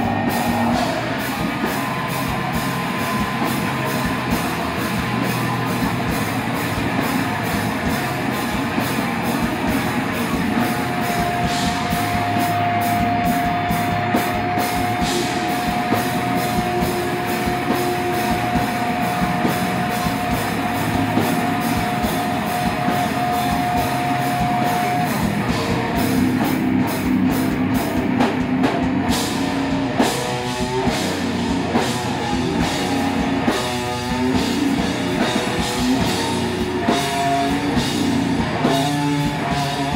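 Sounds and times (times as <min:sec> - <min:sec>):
bass guitar: 0:00.0 - 0:39.9
distorted electric guitar: 0:00.0 - 0:39.9
drum kit playing: 0:00.0 - 0:39.9.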